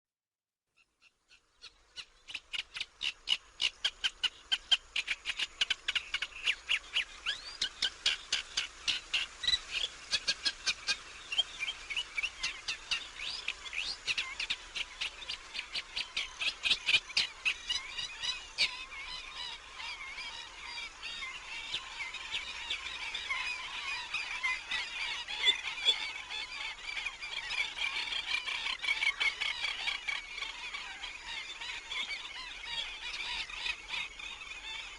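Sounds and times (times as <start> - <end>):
birds calling: 0.8 - 34.9.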